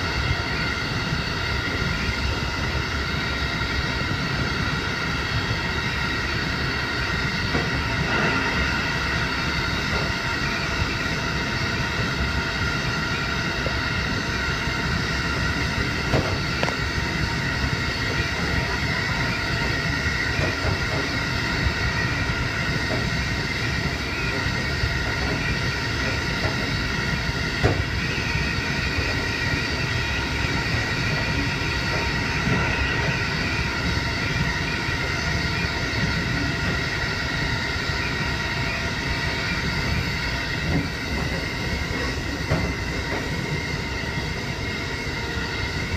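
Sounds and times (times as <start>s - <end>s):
train running at speed: 0.0s - 45.9s.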